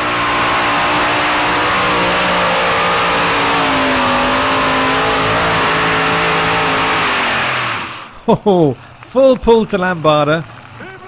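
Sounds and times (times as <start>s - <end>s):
tractor engine at full power: 0.0s - 11.0s.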